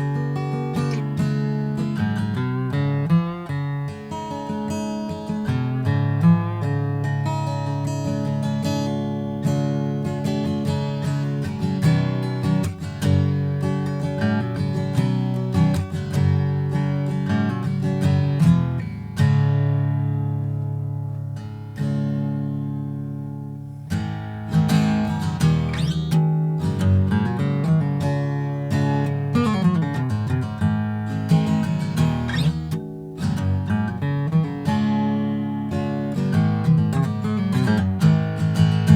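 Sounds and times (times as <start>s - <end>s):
acoustic guitar picked and strummed: 0.0s - 38.9s.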